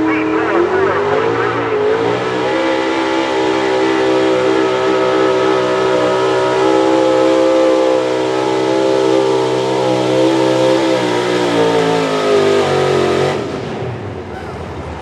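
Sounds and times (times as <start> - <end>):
truck engine howling: 0.0 - 15.0.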